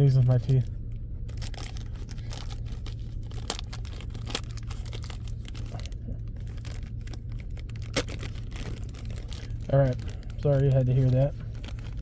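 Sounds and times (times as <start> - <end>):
steady low hum: 0.0 - 12.0
wrapper tearing and crinkling: 1.3 - 12.0.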